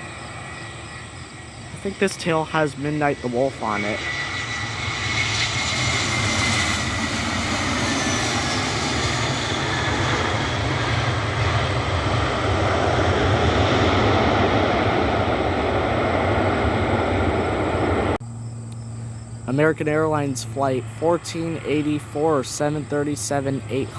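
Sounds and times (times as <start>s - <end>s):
jet engines passing: 0.0s - 23.9s.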